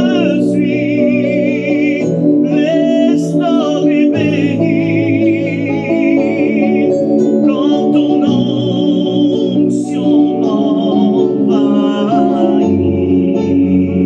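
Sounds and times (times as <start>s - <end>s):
person singing a hymn: 0.0s - 14.0s
sustained instrumental accompaniment: 0.0s - 14.0s.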